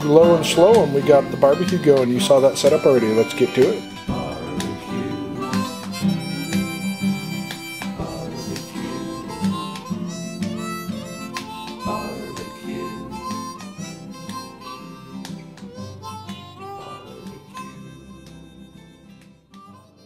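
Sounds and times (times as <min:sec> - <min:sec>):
harmonica bending notes: 0:00.0 - 0:20.0
plucked guitar: 0:00.0 - 0:20.0.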